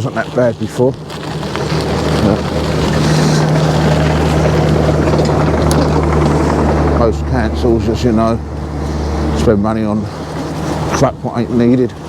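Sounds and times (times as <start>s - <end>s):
engine humming: 0.0s - 12.0s
wind on microphone: 1.0s - 12.0s.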